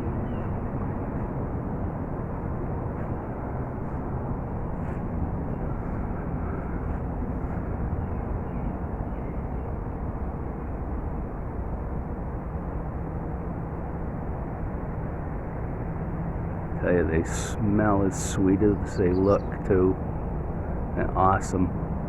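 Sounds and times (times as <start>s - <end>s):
outdoor background rumble: 0.0s - 22.0s.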